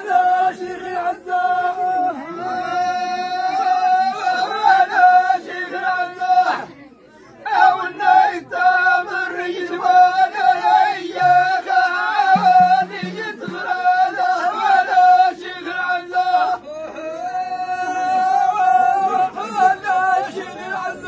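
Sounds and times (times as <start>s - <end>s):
chorus of men singing: 0.0s - 6.7s, 7.5s - 21.0s.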